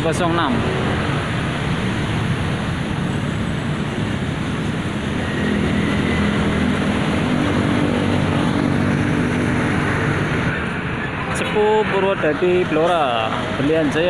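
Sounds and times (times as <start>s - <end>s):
bus engine humming: 0.0s - 14.0s
roadside traffic noise: 0.0s - 14.0s.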